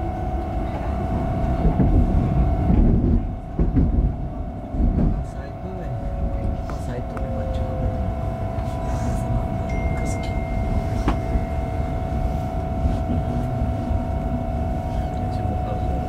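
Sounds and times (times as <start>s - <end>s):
higher whine: 0.0s - 16.0s
train motor whine: 0.0s - 16.0s
train wheels rumbling on track: 0.0s - 16.0s.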